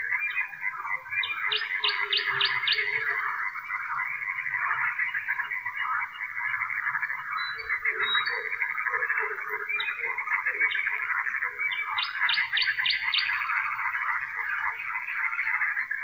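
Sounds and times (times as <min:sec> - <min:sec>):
frogs croaking and trilling: 0:00.0 - 0:16.0
nightingale singing: 0:00.0 - 0:16.0.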